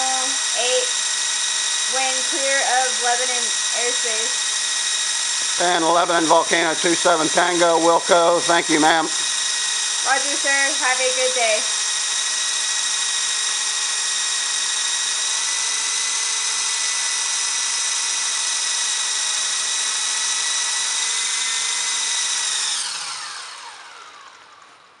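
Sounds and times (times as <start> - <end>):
rc helicopter motors whining: 0.0 - 25.0.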